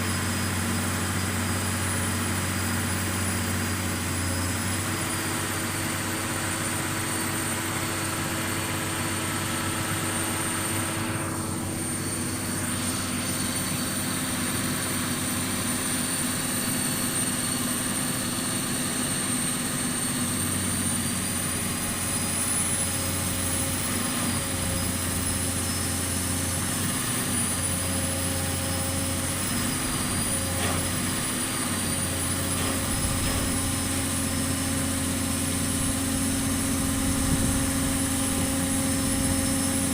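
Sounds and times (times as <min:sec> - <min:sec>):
pile driver engine running: 0:00.0 - 0:39.9.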